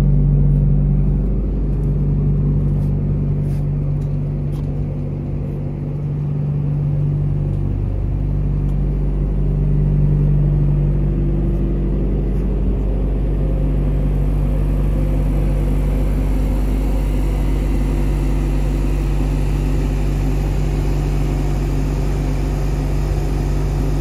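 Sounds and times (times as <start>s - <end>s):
refrigeration unit engine drone: 0.0s - 24.0s.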